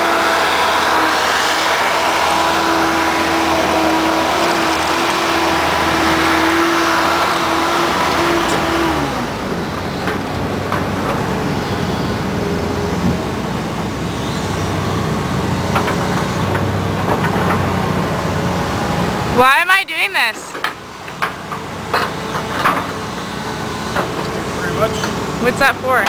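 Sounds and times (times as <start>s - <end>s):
diesel engine whining: 0.0s - 26.0s.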